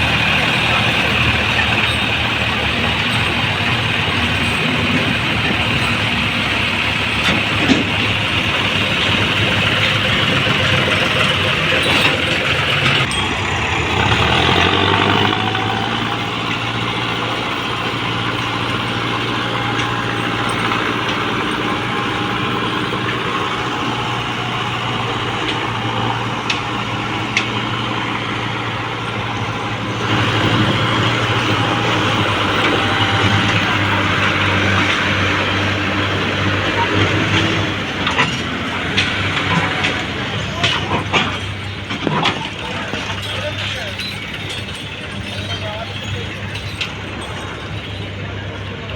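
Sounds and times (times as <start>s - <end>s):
tractor engines running: 0.0s - 48.9s.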